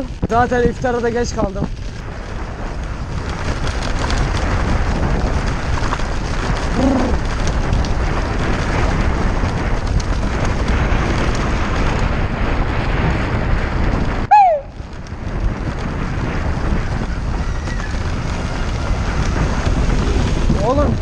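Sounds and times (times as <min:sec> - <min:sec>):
wind buffeting microphone: 0:00.0 - 0:21.0
traffic noise: 0:00.9 - 0:21.0.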